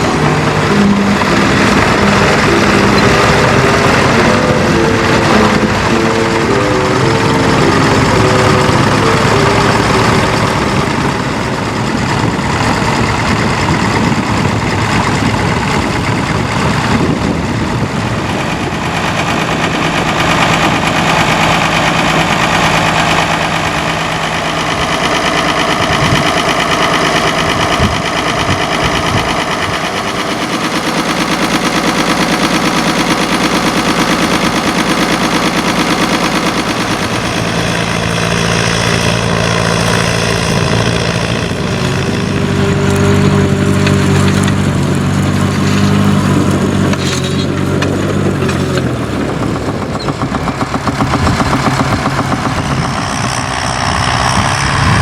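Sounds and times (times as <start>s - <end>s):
tractor engines idling: 0.0s - 55.0s.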